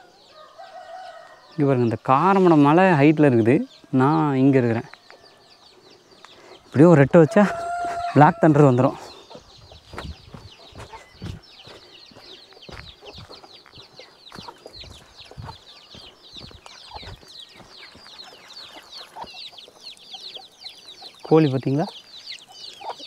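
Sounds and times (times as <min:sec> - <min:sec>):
chicks cheeping: 0:00.0 - 0:23.0.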